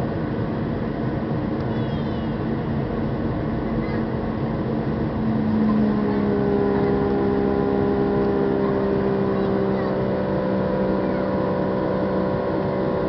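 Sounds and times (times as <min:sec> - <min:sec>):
jet engines roaring in cabin: 0:00.0 - 0:13.0.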